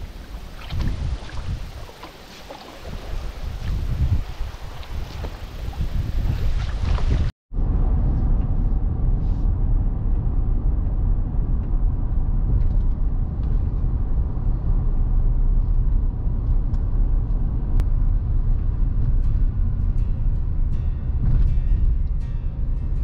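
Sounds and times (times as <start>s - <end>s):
vehicle road noise rumble: 0.0s - 23.0s.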